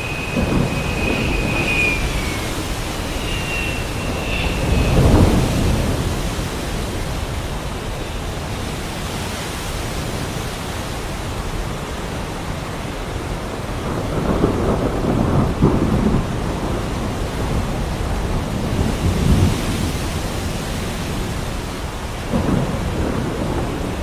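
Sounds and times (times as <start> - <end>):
heavy rain falling: 0.0 - 24.0
thunder rumbling: 0.0 - 24.0.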